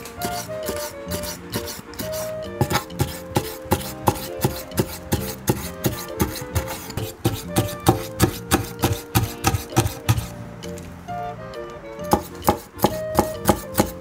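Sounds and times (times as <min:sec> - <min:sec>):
background music: 0:00.0 - 0:14.0
knife chopping on wooden board: 0:00.2 - 0:10.3, 0:12.1 - 0:14.0.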